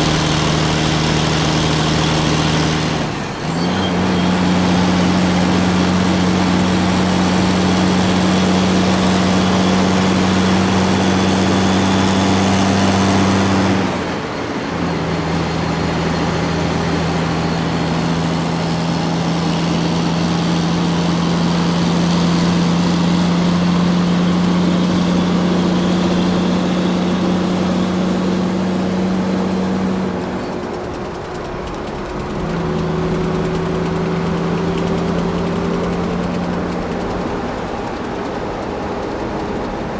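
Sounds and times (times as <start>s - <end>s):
truck engine humming: 0.0s - 39.9s.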